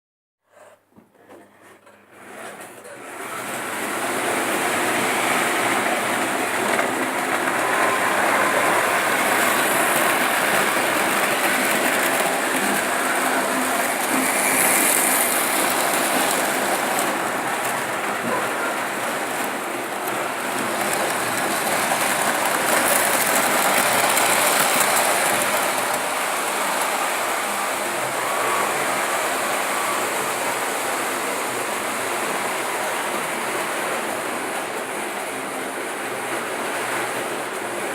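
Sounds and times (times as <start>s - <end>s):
model trains whirring: 1.5s - 37.9s.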